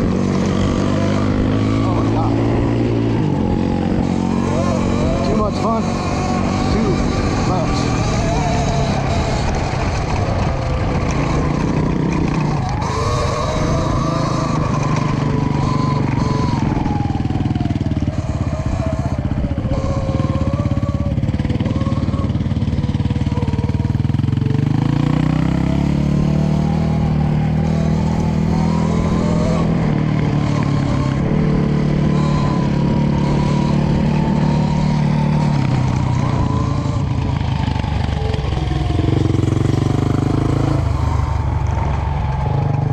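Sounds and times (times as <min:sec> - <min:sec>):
electric motor whining: 0:00.0 - 0:42.6
wind and tyre rumble: 0:00.0 - 0:42.9.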